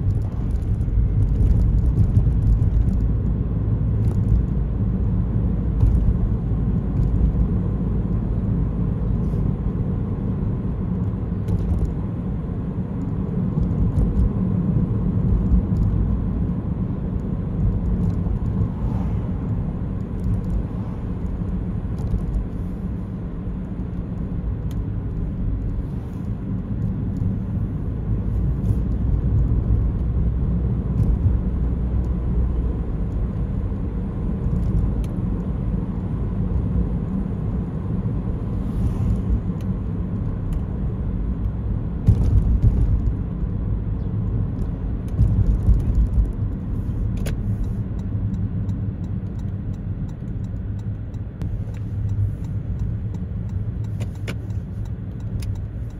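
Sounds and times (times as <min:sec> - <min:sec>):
car driving on a street: 0:00.0 - 0:55.9.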